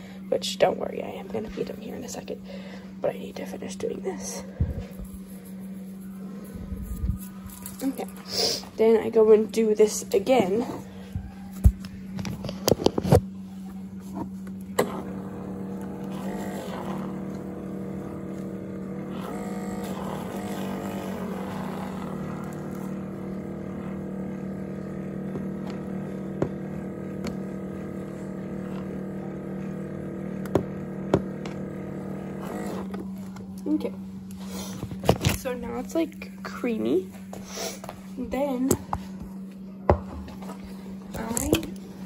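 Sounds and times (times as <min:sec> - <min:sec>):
milk frother whirring: 0:00.0 - 0:42.0.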